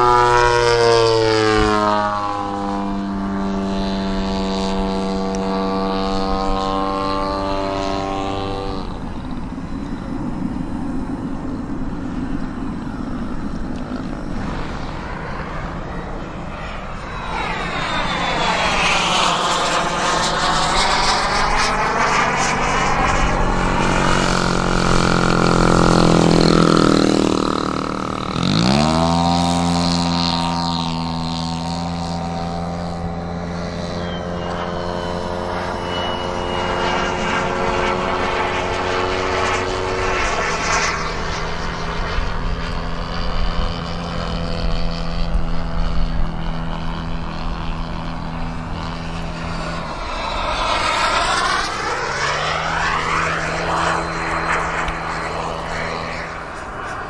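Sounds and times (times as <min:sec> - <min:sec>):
model airplane engine in flight: 0:00.0 - 0:57.0.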